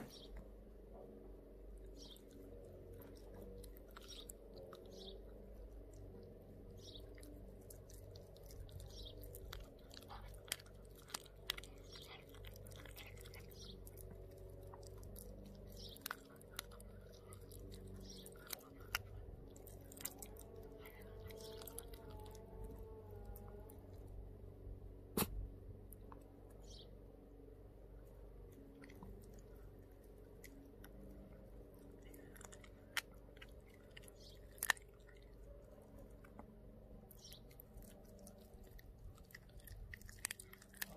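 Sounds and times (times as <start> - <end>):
dog chewing with wet crunches: 1.6 - 24.4, 28.4 - 40.9.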